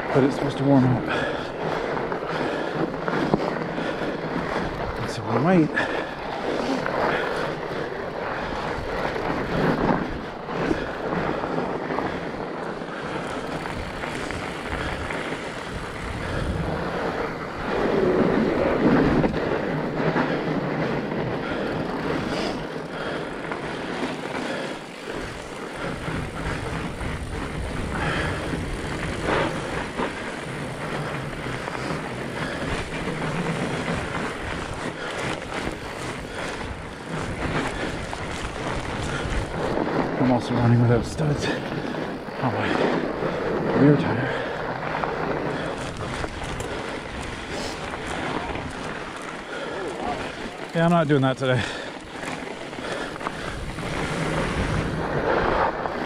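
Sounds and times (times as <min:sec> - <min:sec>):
tyres and wind rushing: 0:00.0 - 0:56.0.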